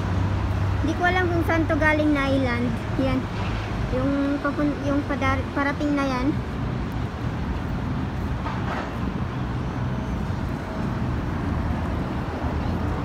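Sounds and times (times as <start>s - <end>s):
low rumble of vehicles: 0.0s - 13.0s.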